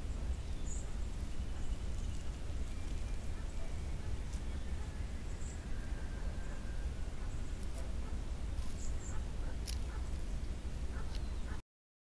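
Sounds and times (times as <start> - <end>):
low background rumble: 0.0 - 11.6.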